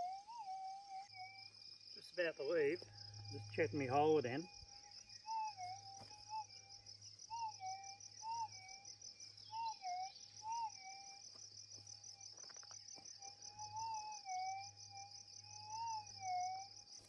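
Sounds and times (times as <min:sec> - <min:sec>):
pulsing insect trill: 0:00.0 - 0:17.0.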